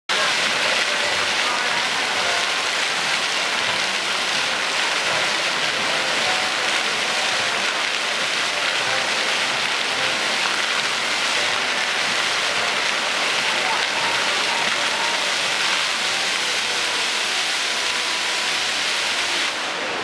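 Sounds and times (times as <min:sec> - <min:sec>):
fountain jets splashing: 0:00.1 - 0:20.0.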